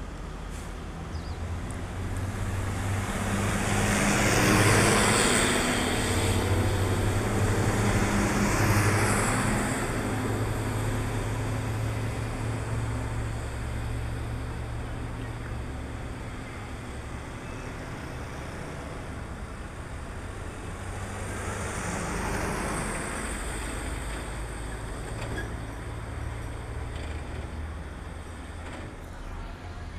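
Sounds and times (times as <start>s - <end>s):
smaller vehicle passing: 1.5s - 26.9s.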